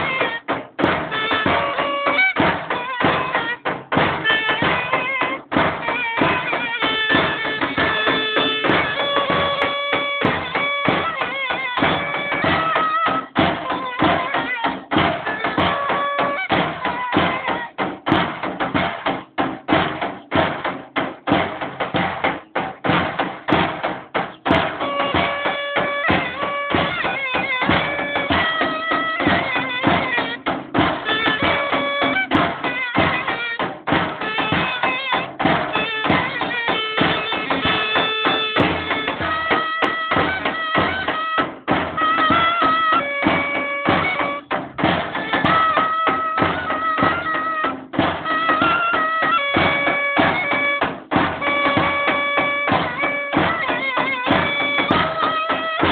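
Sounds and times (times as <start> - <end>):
clarinet folk melody: 0.0 - 17.8, 24.3 - 55.9
bass drum beaten with stick: 0.0 - 55.9.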